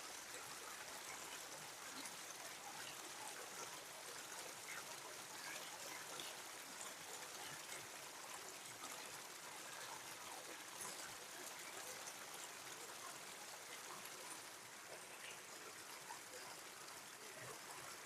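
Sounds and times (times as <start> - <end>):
creek babbling over rocks: 0.0 - 18.0.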